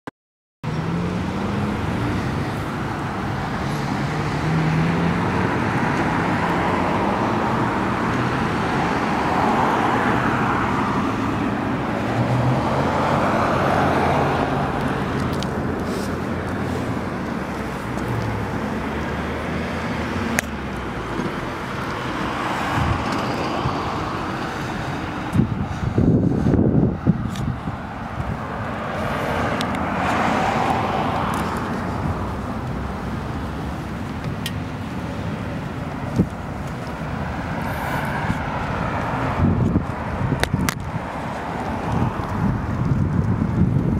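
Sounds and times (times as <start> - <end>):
cars rushing past: 0.6 - 43.9.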